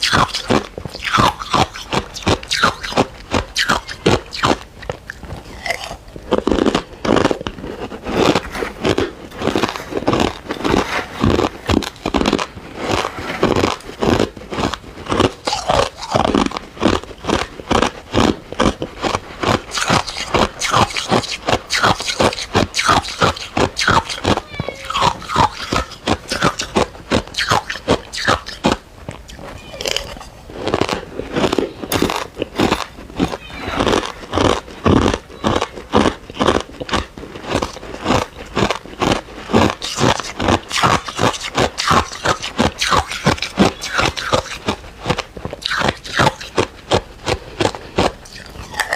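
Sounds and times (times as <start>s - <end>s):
chewing crunchy ice cubes: 0.0s - 48.9s.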